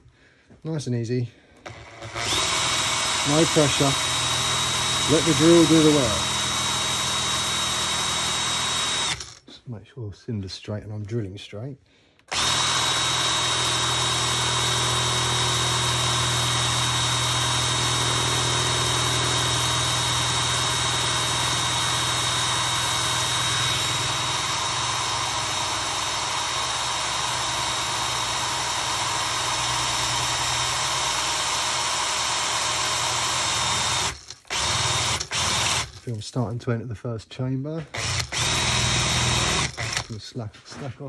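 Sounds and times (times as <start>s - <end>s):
power drill whining into metal: 1.6s - 9.5s, 12.3s - 36.2s, 37.9s - 40.2s.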